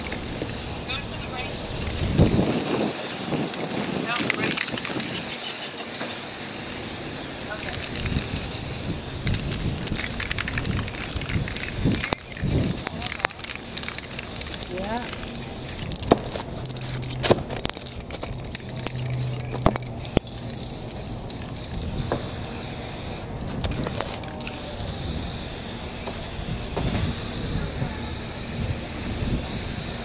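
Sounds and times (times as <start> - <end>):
spray paint can hissing: 0.0 - 30.0.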